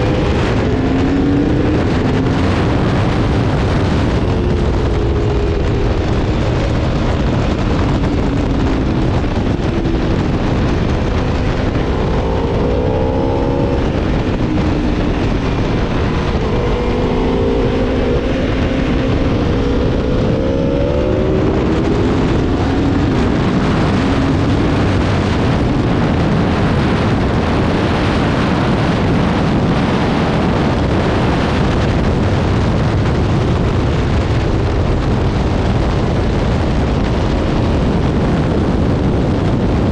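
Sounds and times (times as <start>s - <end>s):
motorcycle engine accelerating: 0.0s - 39.9s
wind on microphone: 0.0s - 39.9s.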